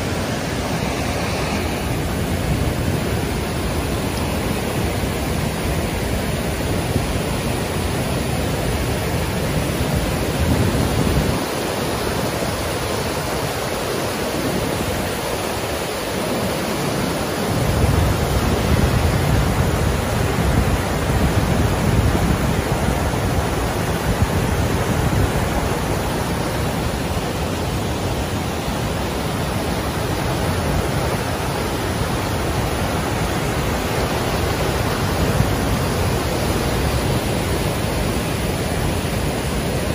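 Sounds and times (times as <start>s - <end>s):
river whitewater rushing: 0.0s - 39.9s.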